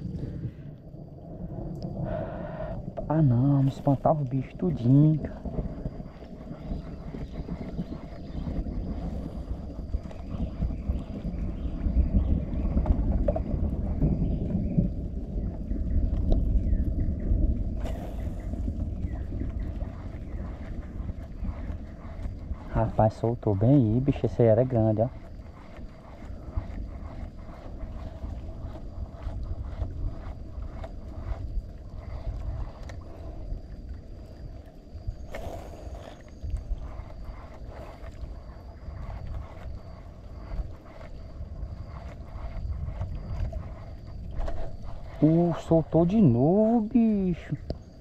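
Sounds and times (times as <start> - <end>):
faint steady high whine: 0.0 - 48.0
wind buffeting microphone: 0.0 - 48.0.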